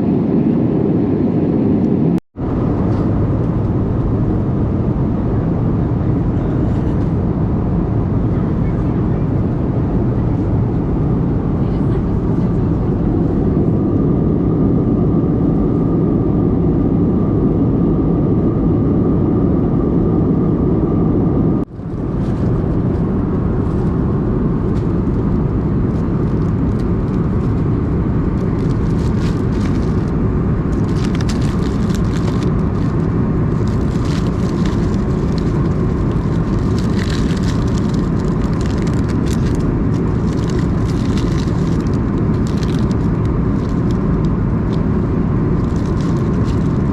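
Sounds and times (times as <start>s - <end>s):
jet engine and airflow roar: 0.0s - 46.9s.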